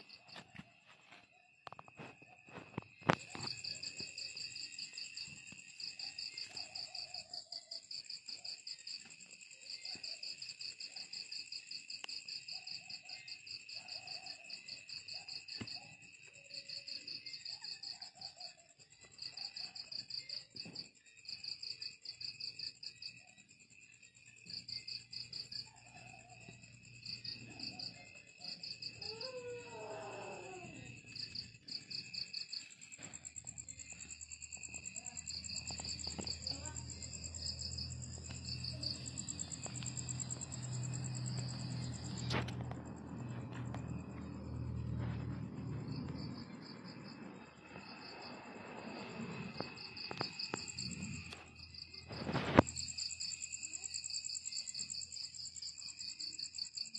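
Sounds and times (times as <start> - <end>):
crickets chirping: 0.0 - 56.9.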